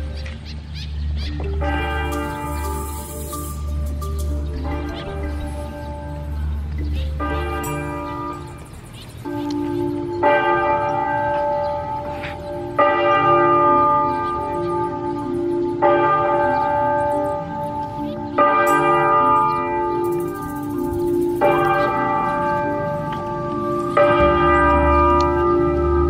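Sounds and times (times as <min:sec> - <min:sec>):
church bell ringing: 0:00.0 - 0:26.0.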